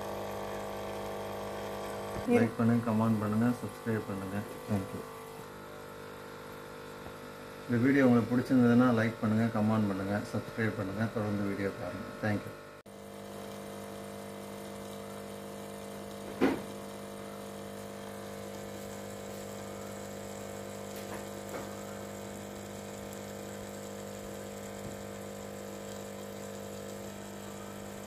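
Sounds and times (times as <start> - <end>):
aquarium filter pump hum: 0.0 - 28.0.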